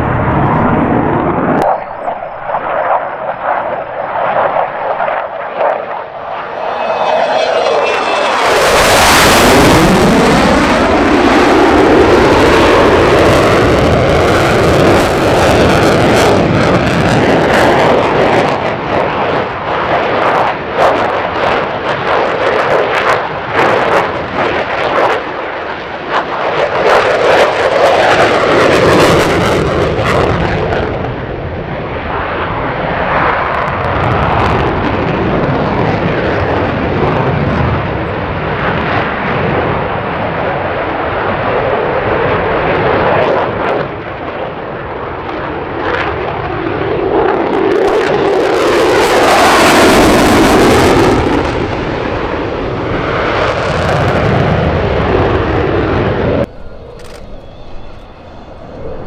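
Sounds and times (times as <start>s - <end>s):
jet engine roaring past: 0.0s - 59.0s.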